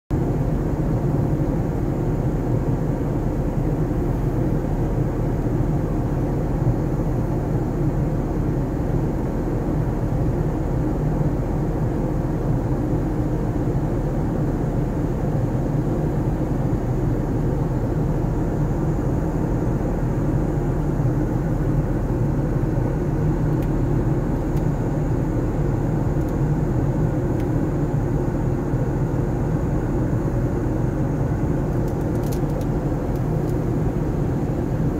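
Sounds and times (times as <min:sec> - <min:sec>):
jet engine cabin rumble: 0:00.1 - 0:34.9.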